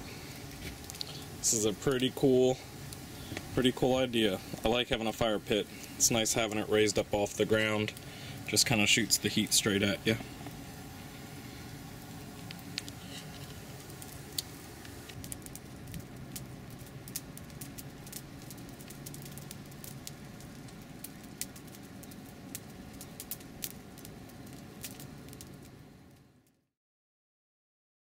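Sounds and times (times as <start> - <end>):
wood fire crackling: 0.0 - 26.6.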